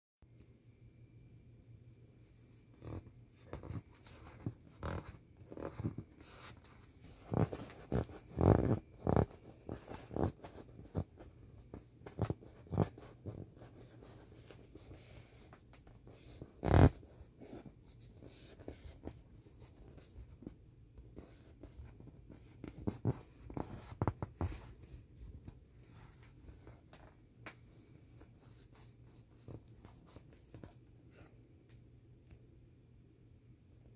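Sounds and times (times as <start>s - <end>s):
hand rubbing vinyl toy: 2.2s - 31.4s.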